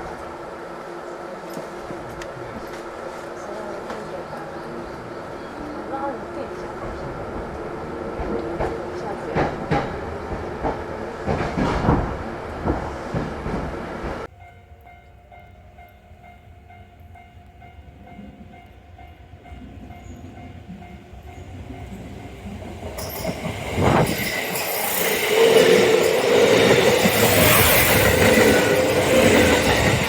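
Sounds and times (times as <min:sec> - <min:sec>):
train clickety-clack over rails: 0:00.0 - 0:14.4, 0:16.6 - 0:30.0
rush of train running: 0:00.0 - 0:14.9, 0:16.6 - 0:30.0.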